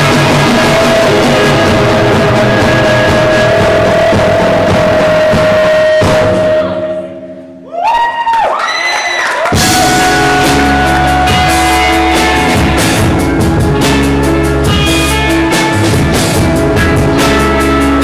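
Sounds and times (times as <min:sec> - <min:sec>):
live rock band playing loud: 0:00.0 - 0:06.8, 0:09.5 - 0:18.0.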